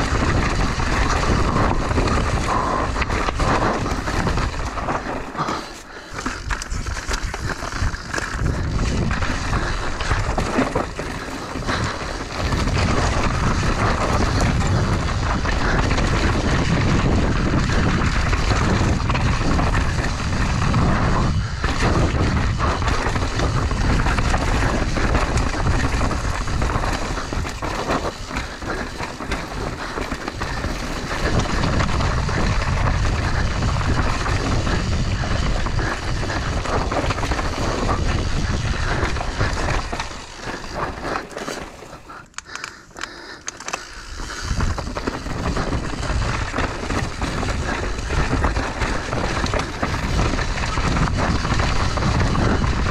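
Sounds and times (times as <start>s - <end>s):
wind on microphone: 0.0s - 5.1s, 6.3s - 41.0s, 44.2s - 52.9s
bike rattling: 0.0s - 52.9s
tyres crunching over rock: 0.0s - 52.9s.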